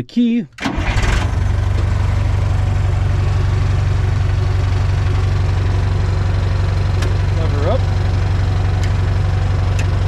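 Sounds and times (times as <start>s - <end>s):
diesel engine idling: 0.6s - 10.0s.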